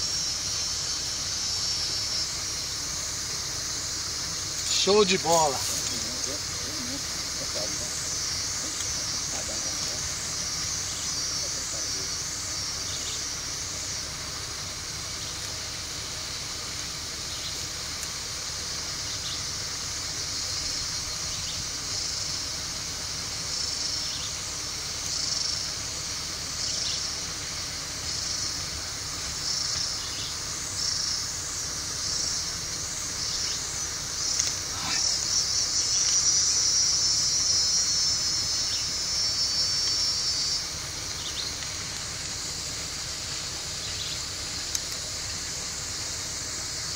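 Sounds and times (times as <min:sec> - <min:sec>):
insects buzzing: 0:00.0 - 0:46.9.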